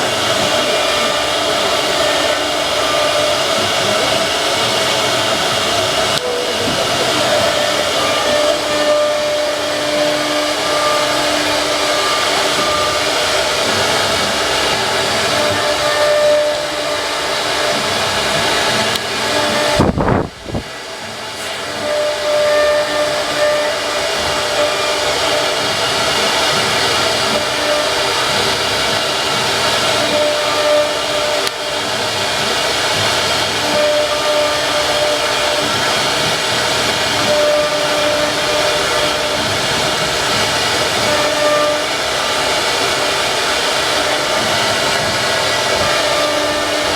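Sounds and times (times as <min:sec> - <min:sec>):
router machine hissing: 0:00.0 - 0:46.9
whining tones: 0:00.0 - 0:46.9.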